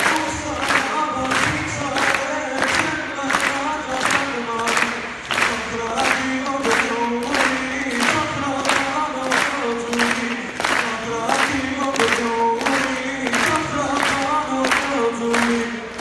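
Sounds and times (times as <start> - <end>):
man singing into a microphone: 0.0 - 16.0
music accompaniment with steady beat: 0.0 - 16.0.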